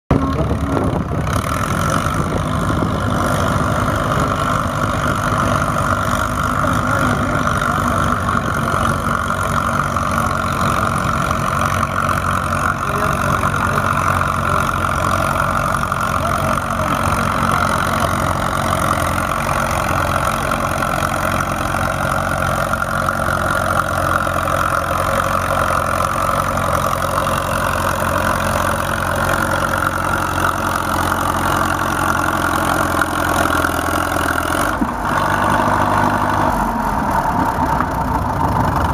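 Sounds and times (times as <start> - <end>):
tractor engine running under load: 0.1 - 38.9.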